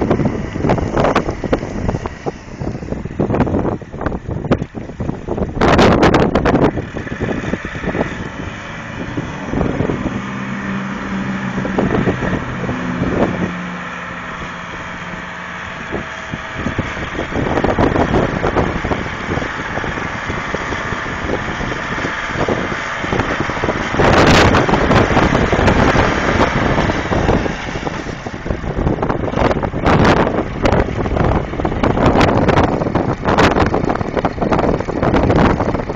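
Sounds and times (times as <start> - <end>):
tractor engine running: 0.0 - 35.9
wind buffeting microphone: 0.0 - 35.9.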